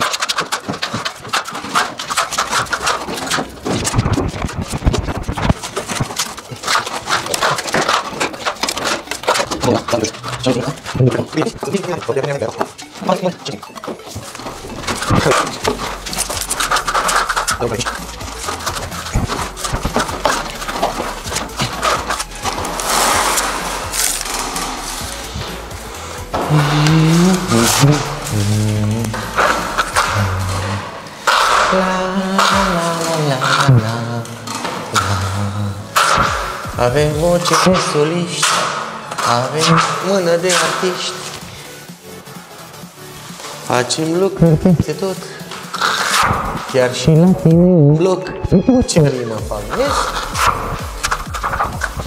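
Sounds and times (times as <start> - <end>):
trowel scraping plaster on wall: 0.0 - 41.9, 43.2 - 47.6, 49.4 - 52.0.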